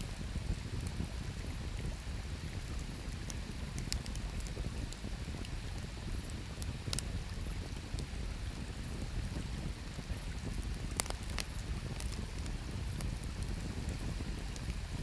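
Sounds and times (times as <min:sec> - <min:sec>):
campfire crackling and popping: 0:00.6 - 0:08.2, 0:08.8 - 0:15.0.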